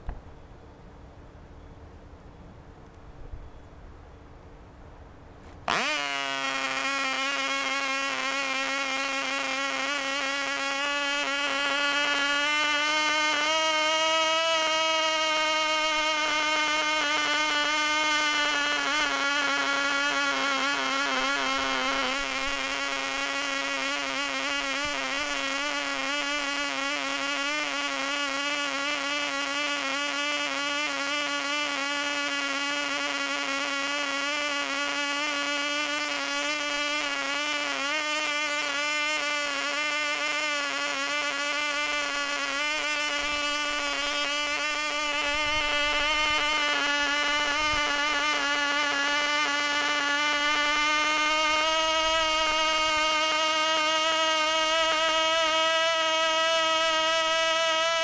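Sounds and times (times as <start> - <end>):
model aircraft engine buzzing: 5.5 - 58.0.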